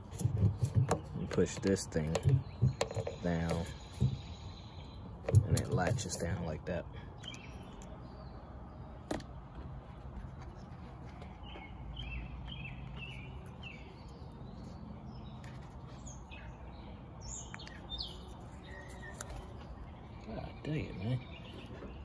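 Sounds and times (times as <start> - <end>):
birds chirping: 0.0 - 22.0
outdoor background noise: 0.0 - 22.0.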